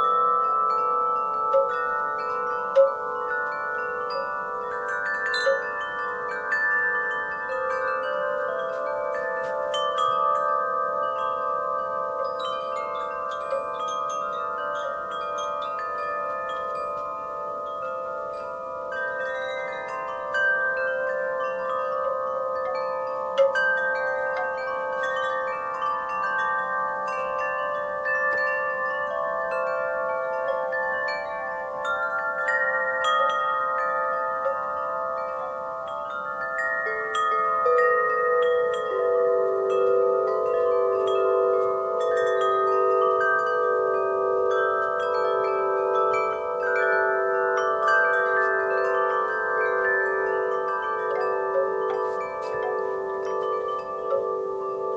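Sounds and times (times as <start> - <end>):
lower-pitched chime ringing: 0.0 - 54.9
wind chimes ringing: 0.0 - 54.9.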